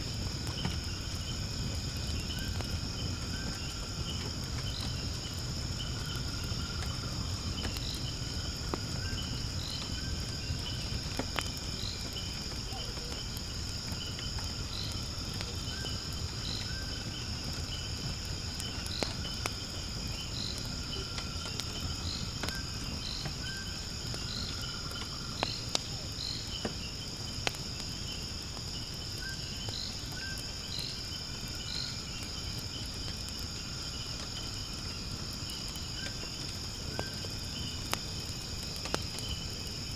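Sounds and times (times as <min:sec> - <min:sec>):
high insect chorus: 0:00.0 - 0:39.9
wood fire crackling and popping: 0:00.0 - 0:39.9.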